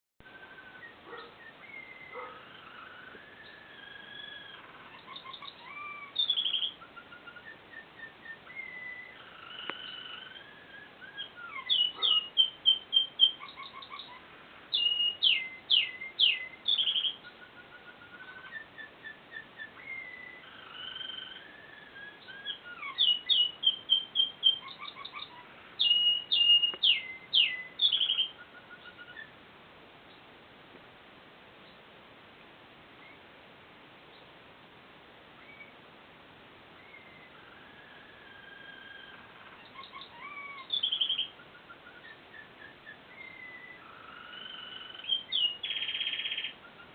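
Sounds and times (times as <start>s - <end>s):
canary singing: 0.2s - 29.4s, 35.4s - 35.8s, 36.8s - 46.9s.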